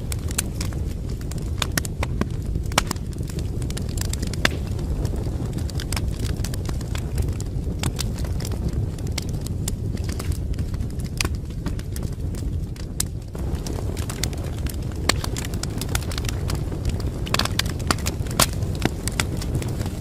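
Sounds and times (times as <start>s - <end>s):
low rumble of flames: 0.0s - 20.0s
wood fire popping and snapping: 0.0s - 20.0s.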